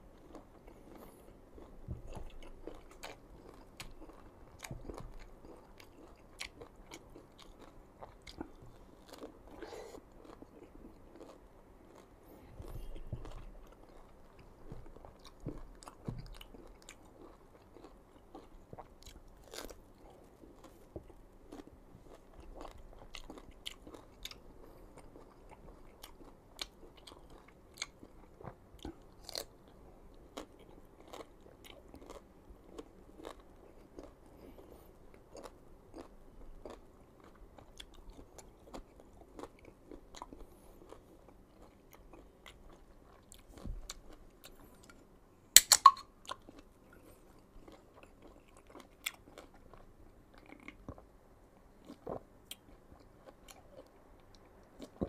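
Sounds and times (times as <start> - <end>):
crunching and chewing raw mango: 0.0 - 55.0.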